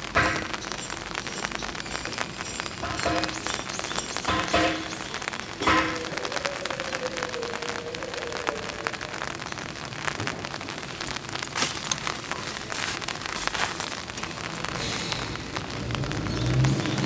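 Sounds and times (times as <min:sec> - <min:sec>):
raindrops ticking: 0:00.0 - 0:17.0
steady rain on track ballast: 0:00.0 - 0:17.0.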